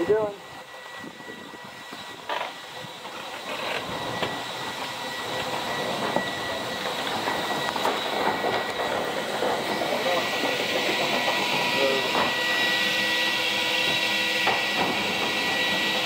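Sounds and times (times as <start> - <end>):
air blower whining: 0.0 - 16.0.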